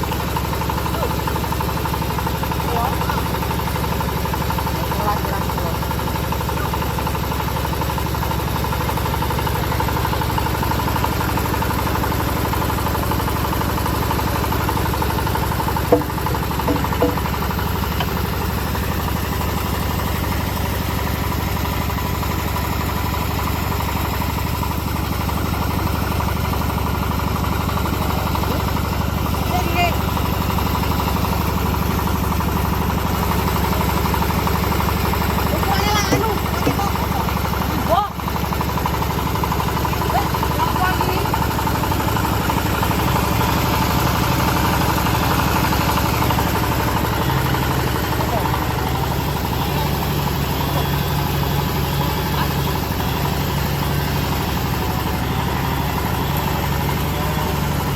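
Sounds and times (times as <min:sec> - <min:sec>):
bandsaw mill engine running: 0:00.0 - 0:57.9.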